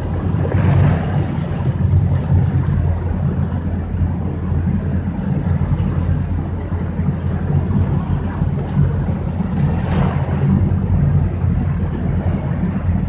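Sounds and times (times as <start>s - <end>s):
motorboat engine rumble: 0.0s - 13.0s
rushing water: 0.0s - 13.0s
water splashing: 0.0s - 13.0s
wind on microphone: 0.0s - 13.0s.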